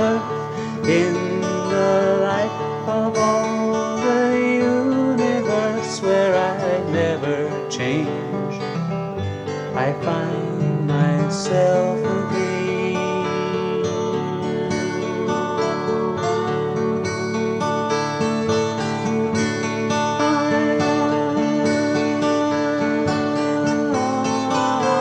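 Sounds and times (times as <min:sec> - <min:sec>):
acoustic guitar music: 0:00.0 - 0:25.0.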